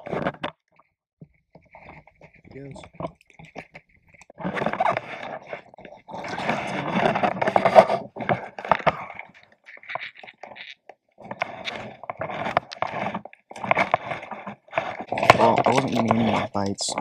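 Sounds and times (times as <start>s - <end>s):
rustling and clicking handling: 0.0s - 17.0s.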